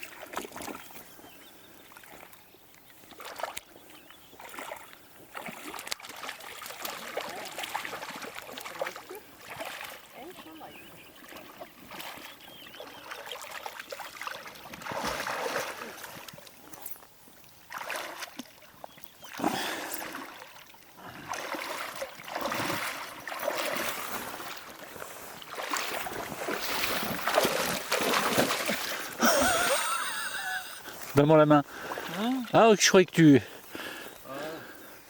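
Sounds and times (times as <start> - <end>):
water splashing and lapping: 0.0 - 35.0.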